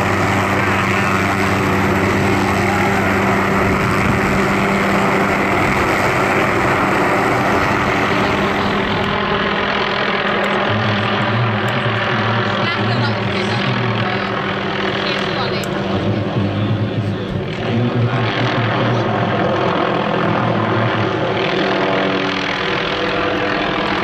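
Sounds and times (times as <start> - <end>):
helicopter rotor and turbine noise: 0.0 - 24.0.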